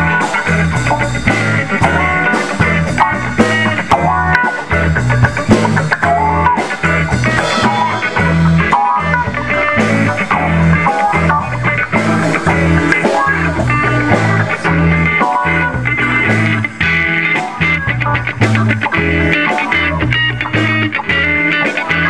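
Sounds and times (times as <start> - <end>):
bass line: 0.0 - 22.0
drums: 0.0 - 22.0
electric guitar riffs: 0.0 - 22.0.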